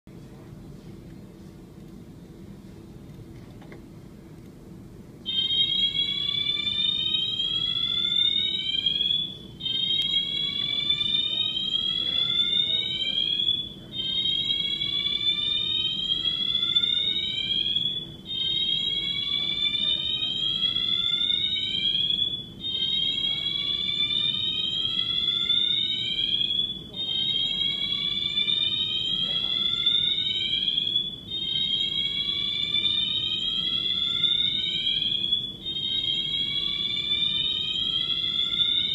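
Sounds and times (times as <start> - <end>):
fire alarm siren whooping: 5.2 - 38.9.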